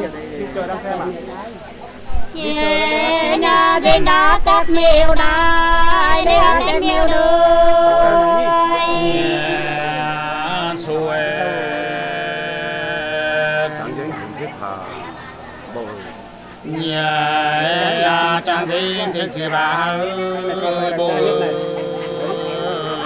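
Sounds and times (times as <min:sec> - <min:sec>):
unaccompanied folk singing: 0:02.2 - 0:23.0.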